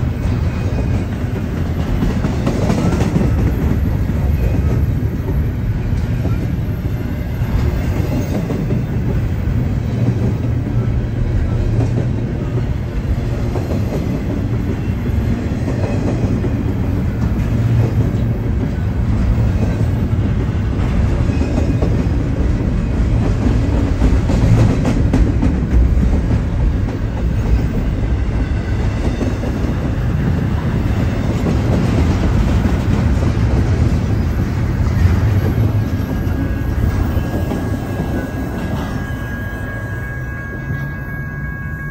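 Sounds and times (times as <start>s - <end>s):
freight train wheels on rails: 0.0s - 41.9s.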